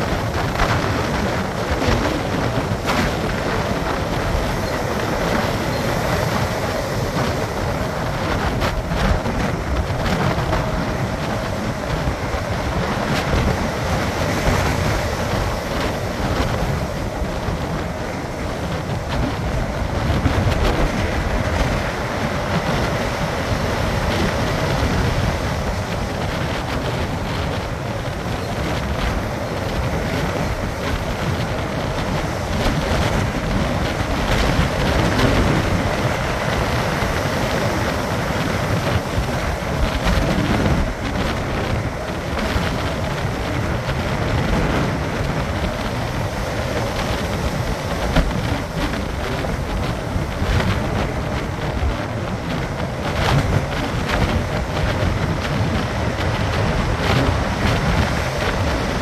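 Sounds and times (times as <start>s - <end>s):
storm surf breaking: 0.0s - 59.0s
wind buffeting microphone: 0.0s - 59.0s.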